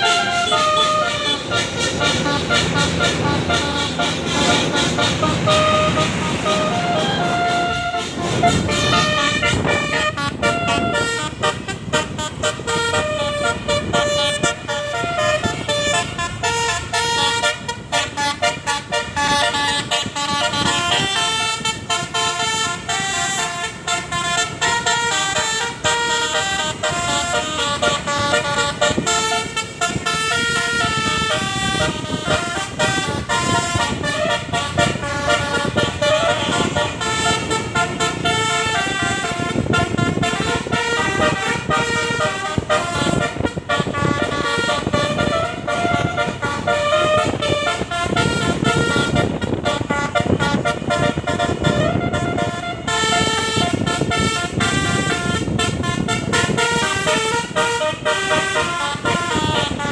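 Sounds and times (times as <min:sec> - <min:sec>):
multi-tone musical bus horn: 0:00.0 - 0:59.9.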